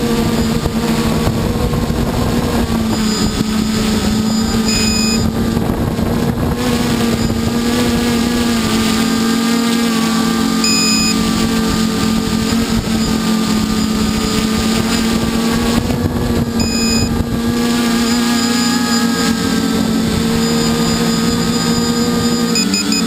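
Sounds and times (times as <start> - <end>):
wind rushing over microphone: 0.0 - 22.6
drone propellers humming: 0.0 - 23.0.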